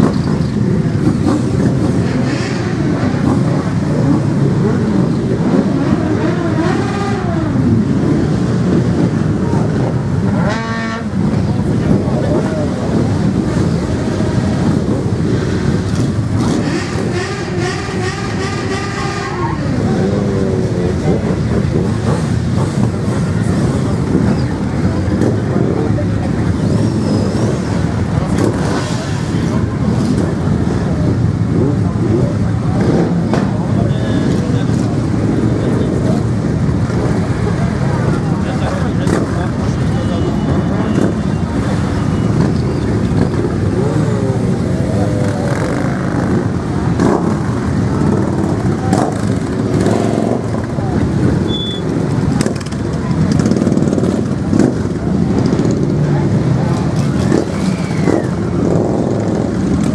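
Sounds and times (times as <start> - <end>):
motorcycle engine revving: 0.0 - 59.9
motorcycle engines idling: 0.0 - 59.9.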